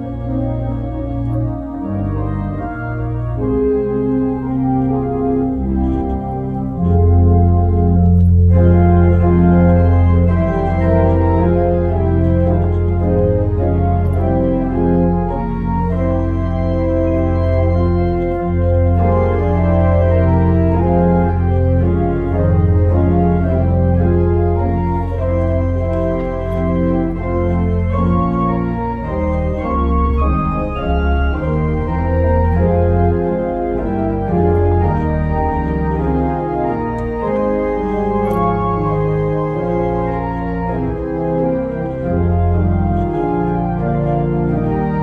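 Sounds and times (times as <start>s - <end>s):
church organ chords: 0.0s - 45.0s.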